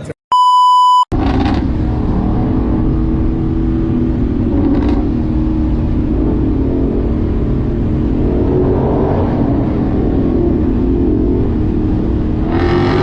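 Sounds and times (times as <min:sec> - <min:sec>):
car engine running: 0:01.1 - 0:13.0.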